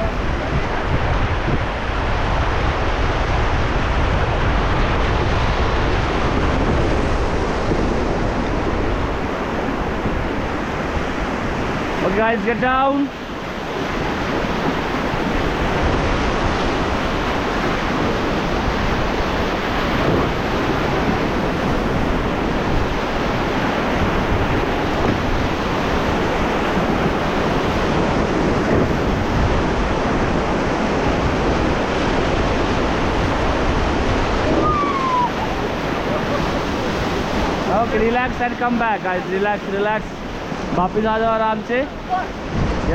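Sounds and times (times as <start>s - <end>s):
river water rushing: 0.0s - 42.9s
wind buffeting microphone: 0.0s - 42.9s.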